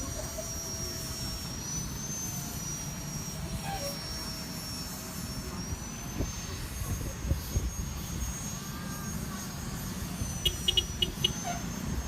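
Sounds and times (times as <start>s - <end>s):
bus engine rumbling with whine: 0.0s - 12.0s.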